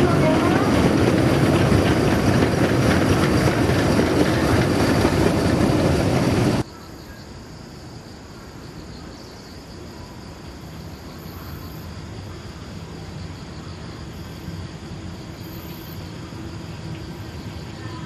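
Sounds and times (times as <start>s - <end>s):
train wheels rumbling on rails: 0.0s - 6.7s, 9.8s - 18.0s.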